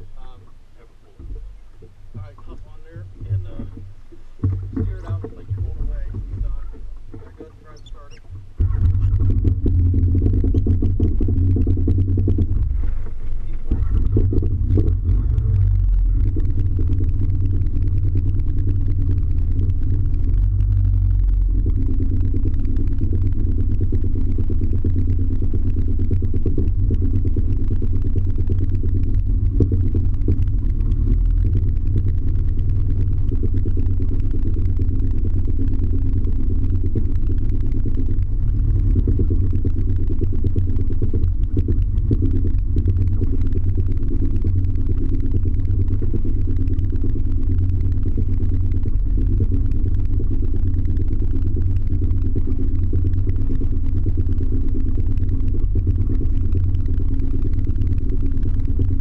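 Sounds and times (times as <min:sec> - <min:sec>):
jet ski engine rumbling: 0:00.0 - 0:59.0.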